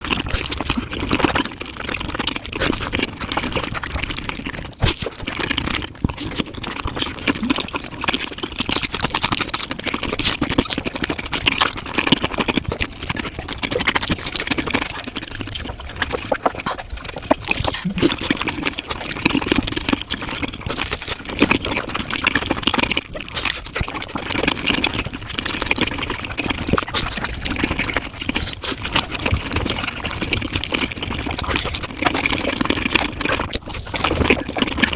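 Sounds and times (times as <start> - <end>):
sped-up wet chewing: 0.0 - 34.9.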